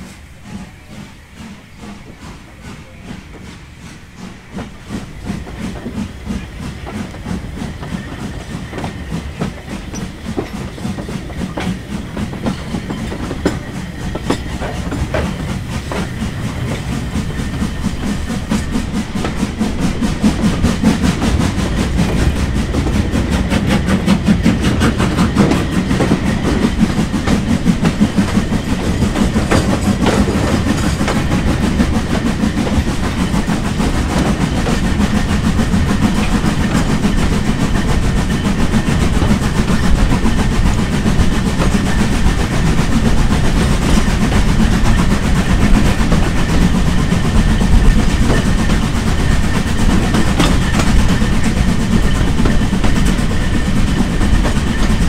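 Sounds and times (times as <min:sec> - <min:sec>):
train rhythmic clatter and rumble: 0:00.0 - 0:55.0.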